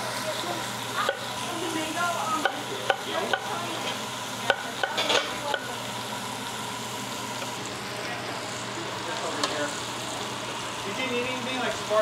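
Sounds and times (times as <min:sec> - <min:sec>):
meat sizzling on griddle: 0:00.0 - 0:12.0.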